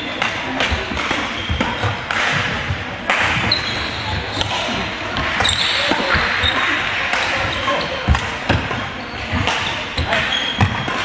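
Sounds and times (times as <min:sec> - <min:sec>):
sports hall background noise: 0:00.0 - 0:11.0
rackets striking shuttlecock: 0:00.1 - 0:11.0.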